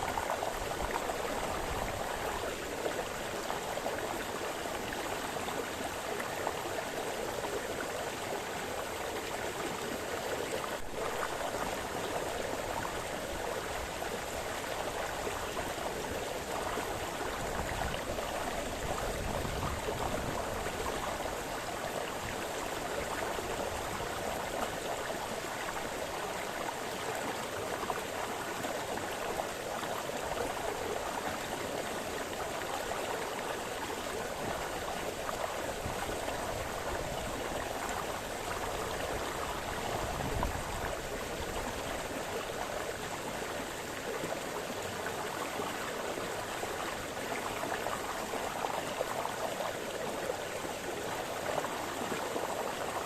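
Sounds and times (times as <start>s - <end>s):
brook babbling over stones: 0.0s - 53.0s.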